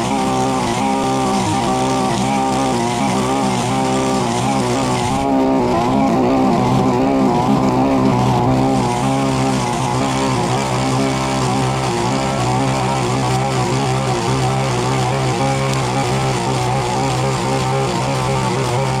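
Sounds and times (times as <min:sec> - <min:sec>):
brush cutter cutting grass: 0:00.0 - 0:19.0.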